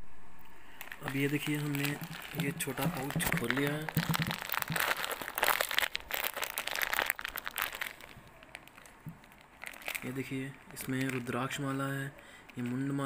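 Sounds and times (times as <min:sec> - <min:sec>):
plastic packaging crinkling: 0:00.7 - 0:13.0.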